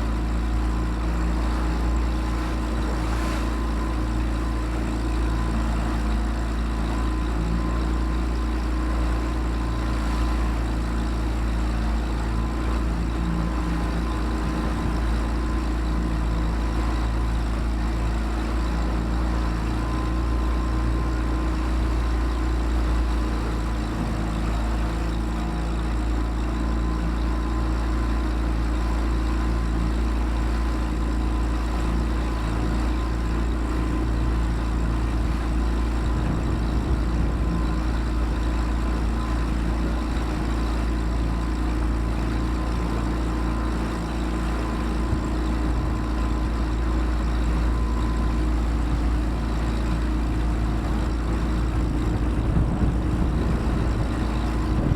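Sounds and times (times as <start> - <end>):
boat engine running steadily: 0.0 - 54.9.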